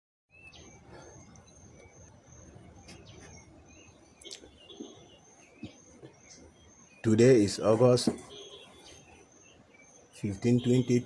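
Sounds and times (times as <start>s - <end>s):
bird chirps: 0.3s - 11.0s
high insect trill: 0.4s - 11.0s.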